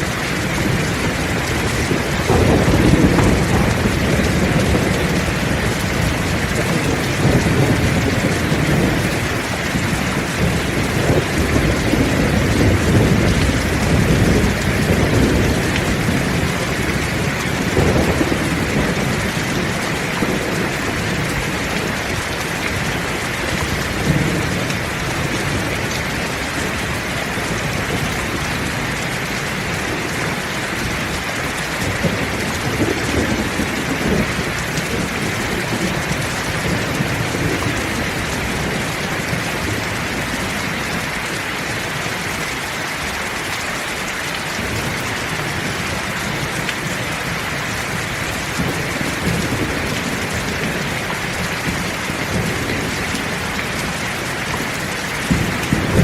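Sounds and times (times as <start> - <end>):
thunder rumbling: 0.0 - 42.2, 44.5 - 56.0
heavy rain falling: 0.0 - 56.0.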